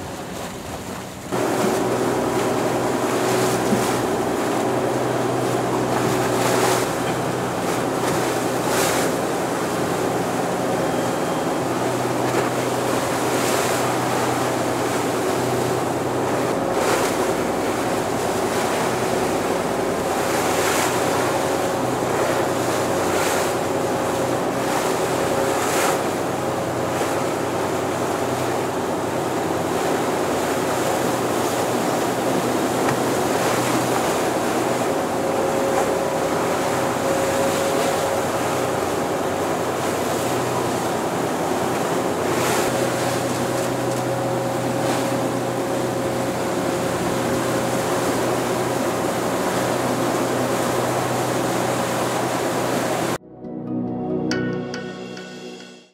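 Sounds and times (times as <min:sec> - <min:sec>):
sea water splashing: 0:00.0 - 0:53.2
steady motor hum: 0:00.0 - 0:53.2.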